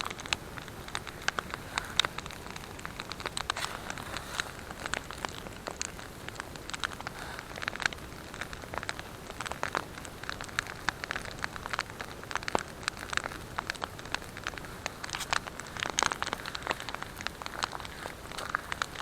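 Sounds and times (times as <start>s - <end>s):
campfire crackling: 0.0s - 19.0s
soft steady hiss: 0.0s - 19.0s.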